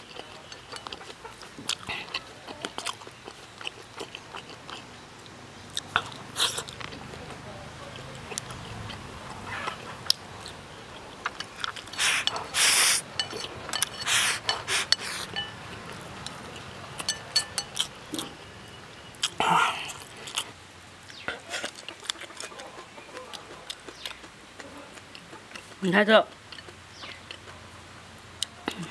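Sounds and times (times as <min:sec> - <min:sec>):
person chewing: 0:00.0 - 0:18.5, 0:19.1 - 0:27.6.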